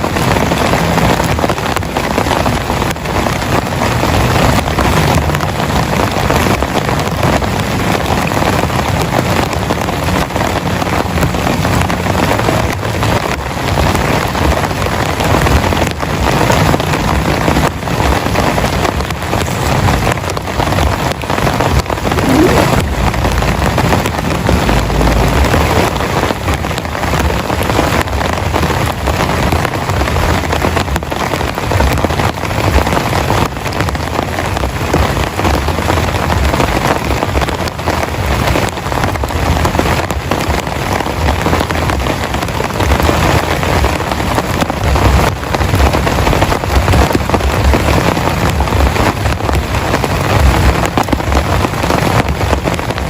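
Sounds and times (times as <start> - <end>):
heavy rain falling: 0.0 - 53.0
raindrops striking a surface: 0.0 - 53.0.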